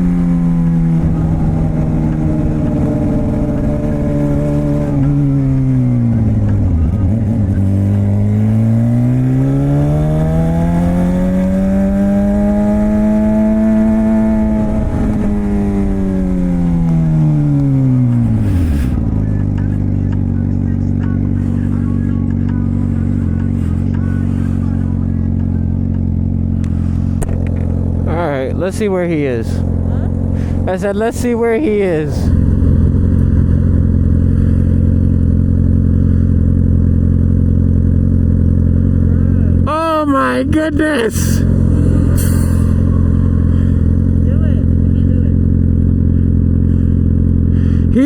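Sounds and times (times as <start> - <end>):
motorcycle exhaust revving: 0.0 - 48.0.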